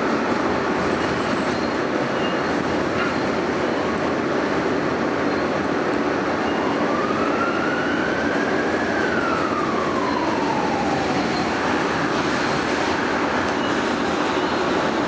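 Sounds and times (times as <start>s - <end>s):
rumble of train wheels on rail: 0.0s - 15.0s.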